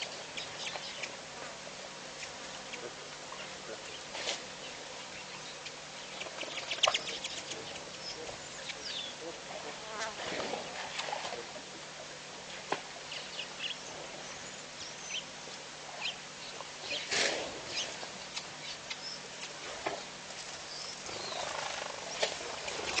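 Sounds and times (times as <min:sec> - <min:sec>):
birds chirping: 0:00.0 - 0:10.0, 0:12.4 - 0:17.1, 0:17.7 - 0:23.0.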